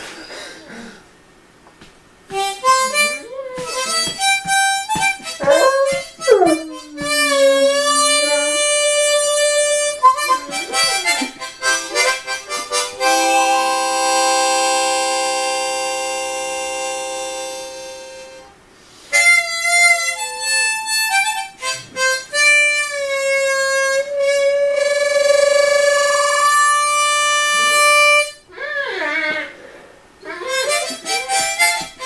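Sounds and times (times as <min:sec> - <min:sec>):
harmonica playing: 0:02.3 - 0:28.5, 0:30.2 - 0:32.0.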